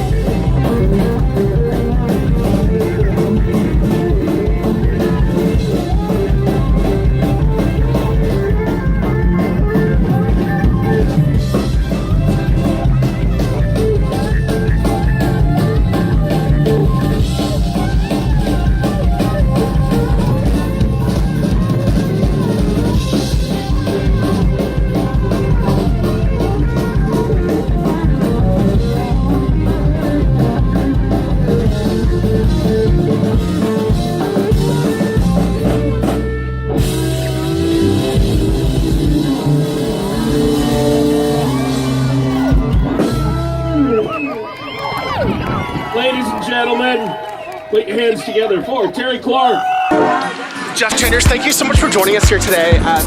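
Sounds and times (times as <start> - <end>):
drum kit beat: 0.0 - 43.9, 49.8 - 53.0
bass guitar: 0.0 - 46.4, 50.6 - 53.0
electric guitar: 0.0 - 46.4, 49.8 - 53.0.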